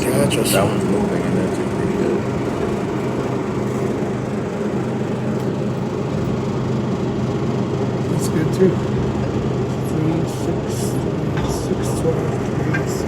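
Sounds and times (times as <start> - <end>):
steady low machine hum: 0.0 - 13.0.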